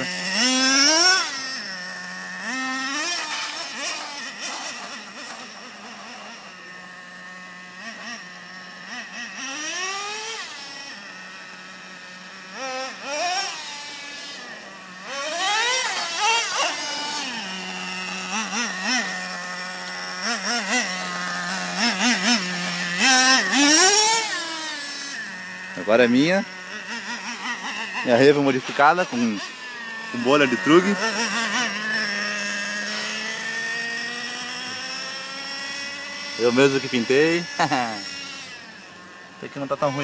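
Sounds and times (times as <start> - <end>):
nitro engine idling: 0.0 - 40.0.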